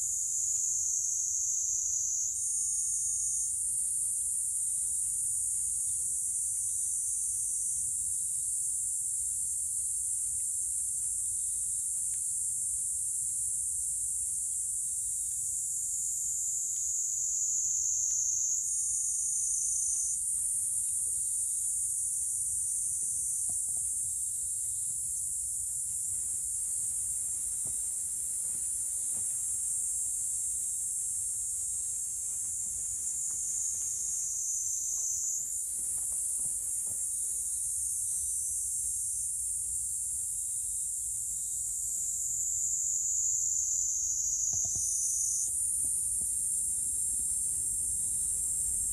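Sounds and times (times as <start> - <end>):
insect chorus trilling: 0.0 - 48.9.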